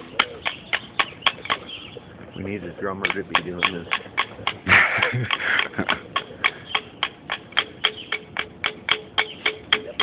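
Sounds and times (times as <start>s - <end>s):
rapid tapping on metal: 0.0s - 10.0s.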